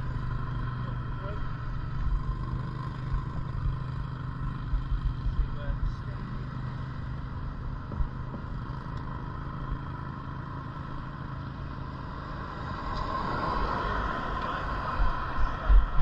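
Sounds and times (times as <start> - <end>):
bike riding rush: 0.0 - 16.0
wind and tyre rumble: 0.0 - 16.0.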